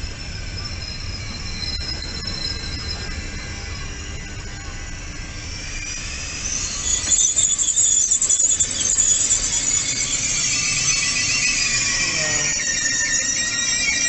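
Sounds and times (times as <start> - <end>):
train rumbling: 0.0 - 14.0
train wheels squealing: 0.0 - 14.0.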